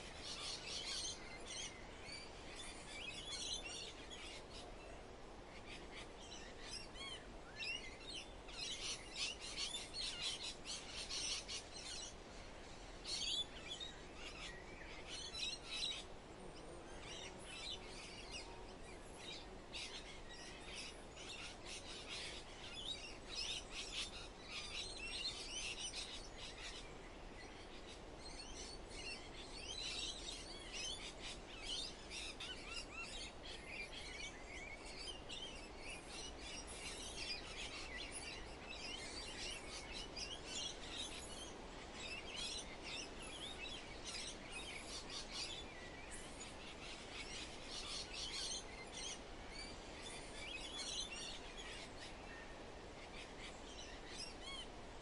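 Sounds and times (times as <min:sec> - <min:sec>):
soft forest hiss: 0:00.0 - 0:55.0
songbirds chirping and trilling: 0:00.0 - 0:55.0.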